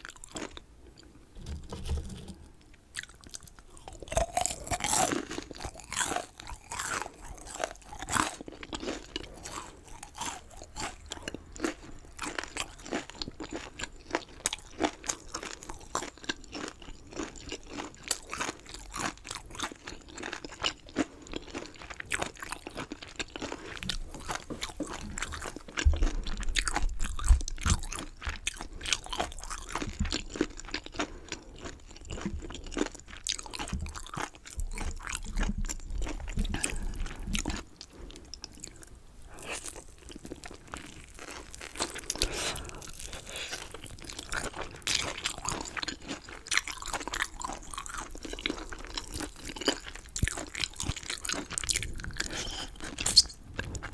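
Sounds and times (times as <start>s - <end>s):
crunching and chewing chicken: 0.0s - 53.9s.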